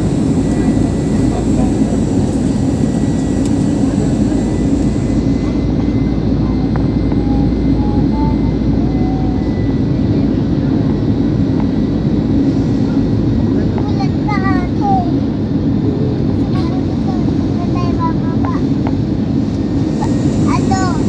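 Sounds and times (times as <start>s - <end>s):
airliner cabin engine noise: 0.0s - 21.0s.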